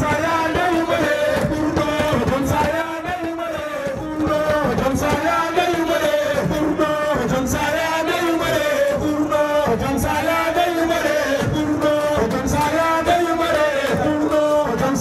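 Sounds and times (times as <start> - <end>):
men chanting a religious song: 0.0 - 15.0.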